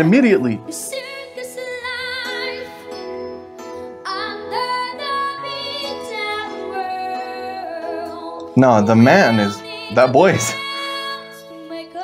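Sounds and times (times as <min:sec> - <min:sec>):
boy singing a ballad: 0:00.0 - 0:03.3, 0:04.0 - 0:12.0.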